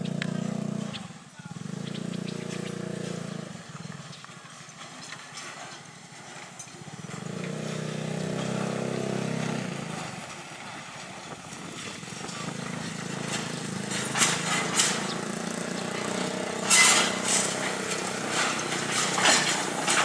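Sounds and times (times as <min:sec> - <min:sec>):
diesel train droning: 0:00.0 - 0:20.0.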